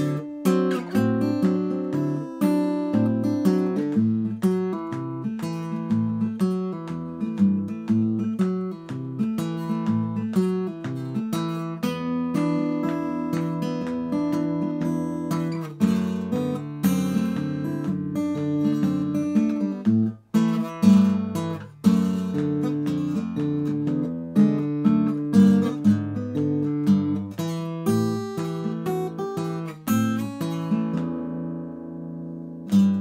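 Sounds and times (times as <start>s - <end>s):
fingerstyle acoustic guitar blues: 0.0s - 33.0s.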